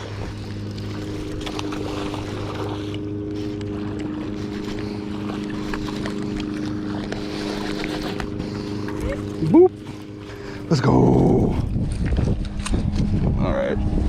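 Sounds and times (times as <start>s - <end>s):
steady motor hum: 0.0s - 14.0s.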